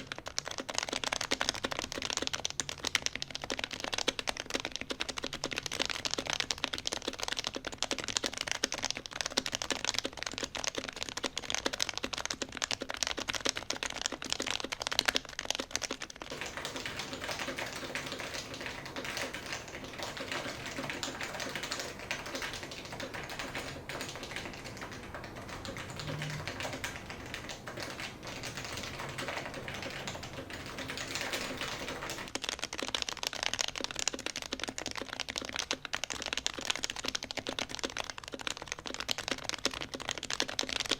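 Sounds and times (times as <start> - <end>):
fast keyboard typing: 0.0 - 40.9.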